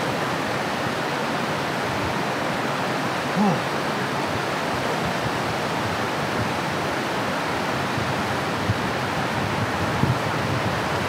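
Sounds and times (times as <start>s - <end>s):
waterfall and stream rushing: 0.0s - 11.0s.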